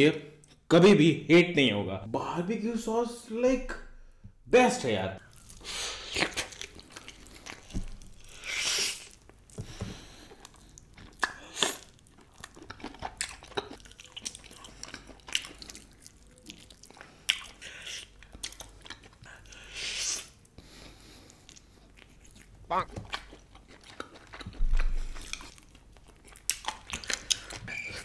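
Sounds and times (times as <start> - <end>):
bites and wet chewing: 5.2 - 28.0.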